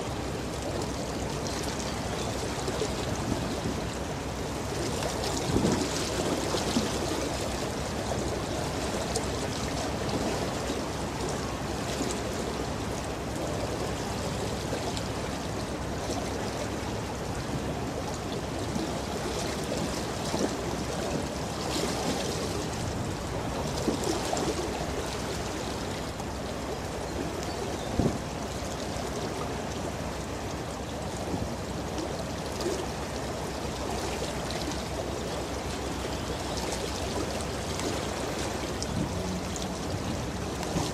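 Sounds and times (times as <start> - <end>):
bow wave splashing along hull: 0.0 - 40.9.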